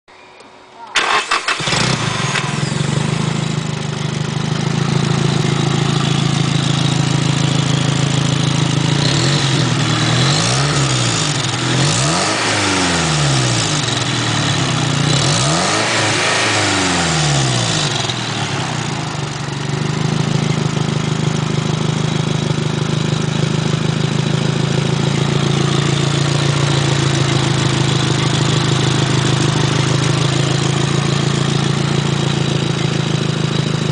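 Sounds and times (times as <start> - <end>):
car engine idling and revving: 1.0 - 33.9.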